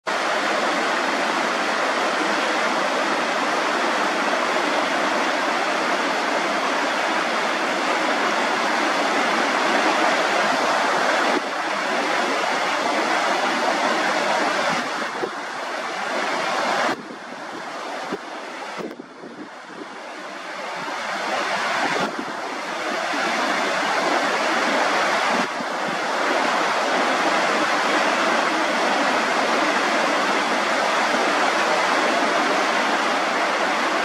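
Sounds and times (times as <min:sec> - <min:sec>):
stream rushing over rocks: 0:00.1 - 0:34.0.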